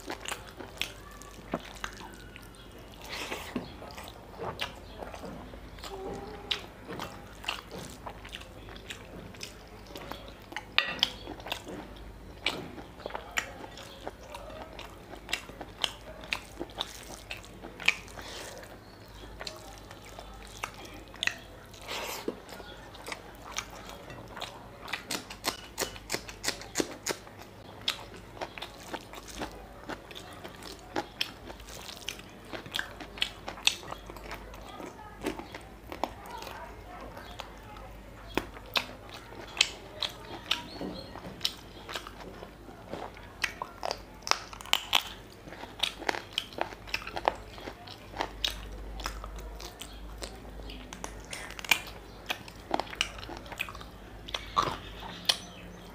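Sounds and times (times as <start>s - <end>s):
wet chewing with smacks: 0.0s - 55.9s.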